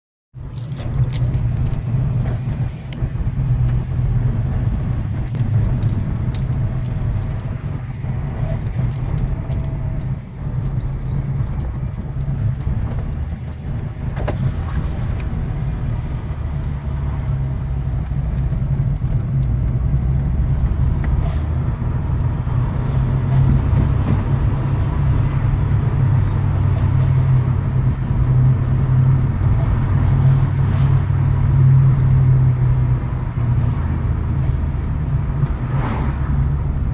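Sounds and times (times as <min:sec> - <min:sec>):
light clicks and rattles: 0:00.4 - 0:33.8
car engine running: 0:00.4 - 0:36.9.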